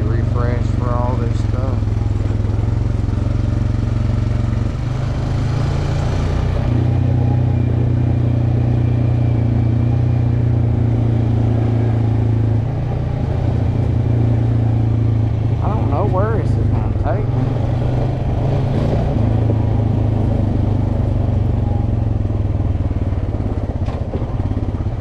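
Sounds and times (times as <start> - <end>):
off-road vehicle engine running: 0.0 - 25.0.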